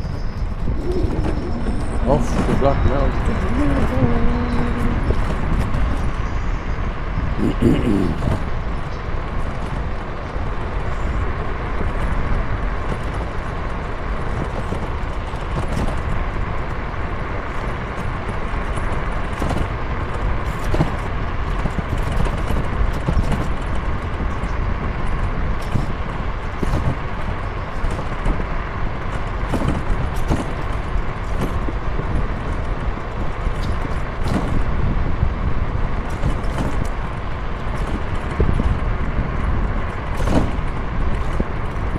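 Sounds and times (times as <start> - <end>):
constant hum: 0.0 - 41.9
road and wind rumble: 0.0 - 41.9
small ticks and clicks: 8.2 - 41.9.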